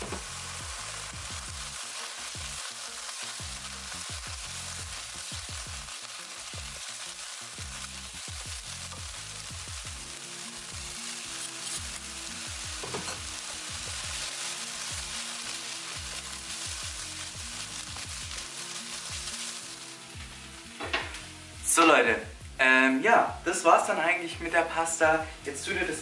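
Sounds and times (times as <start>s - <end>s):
background music: 0.0s - 26.0s
food sizzling in hot oil: 0.0s - 26.0s.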